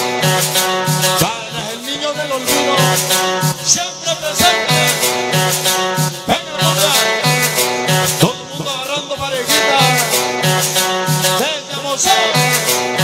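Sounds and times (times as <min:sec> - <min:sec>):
loud cumbia dance music: 0:00.0 - 0:13.0.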